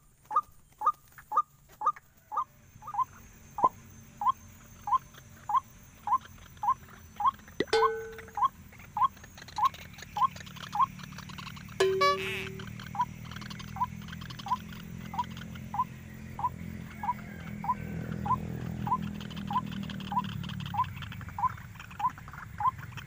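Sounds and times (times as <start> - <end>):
longer lower bird call: 0.3 - 23.0
waterhen calling: 2.8 - 23.0.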